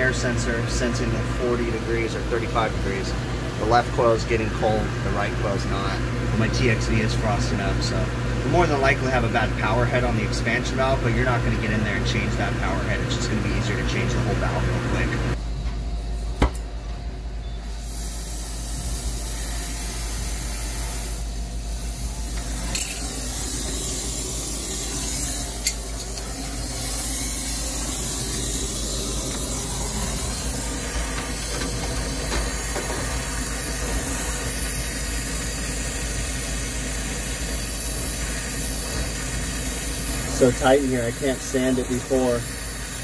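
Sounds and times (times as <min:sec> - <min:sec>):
brazing torch hissing: 0:00.0 - 0:15.4, 0:17.6 - 0:43.0.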